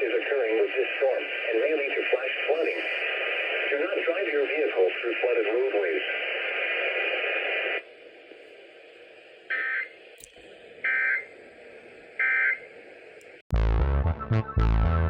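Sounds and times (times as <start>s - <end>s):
radio hiss: 0.0s - 13.4s.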